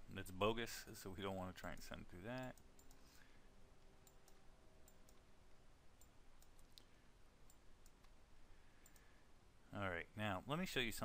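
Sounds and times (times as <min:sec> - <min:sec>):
low room noise: 0:00.0 - 0:11.0.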